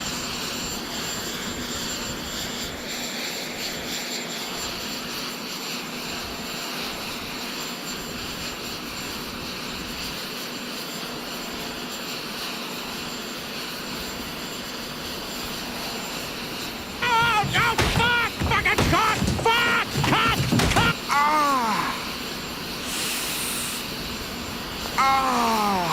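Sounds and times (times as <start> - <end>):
jet engine noise: 0.3 - 25.9.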